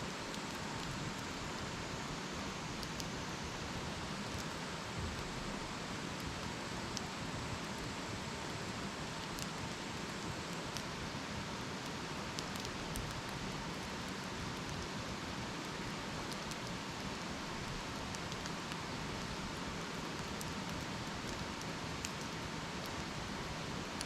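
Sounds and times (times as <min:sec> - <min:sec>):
campfire hissing: 0:00.0 - 0:24.0
fire crackles and pops: 0:00.1 - 0:24.0.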